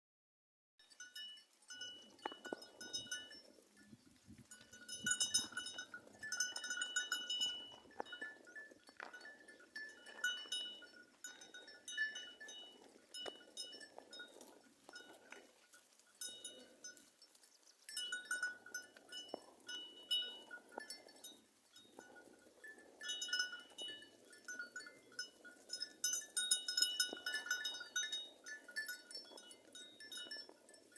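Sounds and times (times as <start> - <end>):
goat bells clanking: 0.8 - 30.9.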